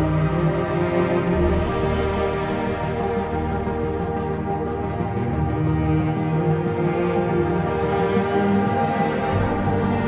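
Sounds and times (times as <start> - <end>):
sustained layered music tones: 0.0 - 10.0.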